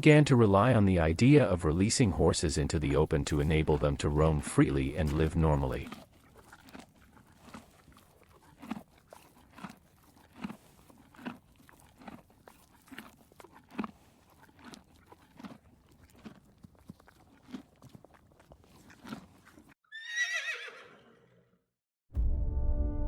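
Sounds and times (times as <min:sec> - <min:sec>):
horse chewing grass: 0:00.1 - 0:19.8.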